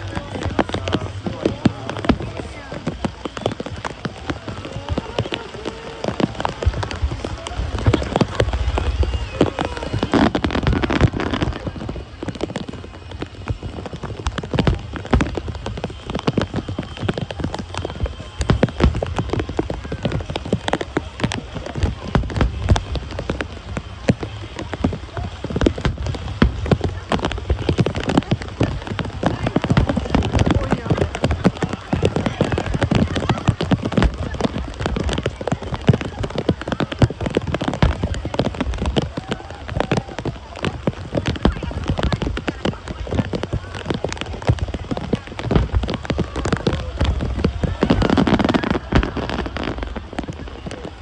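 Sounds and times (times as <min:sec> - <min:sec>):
fireworks crackling: 0:00.0 - 0:51.0
low fireworks booms: 0:00.0 - 0:51.0.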